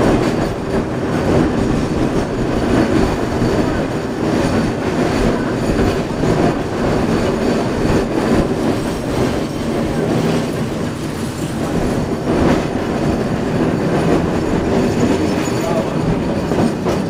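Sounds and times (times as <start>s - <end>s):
streetcar wheels running on rails: 0.0s - 17.0s.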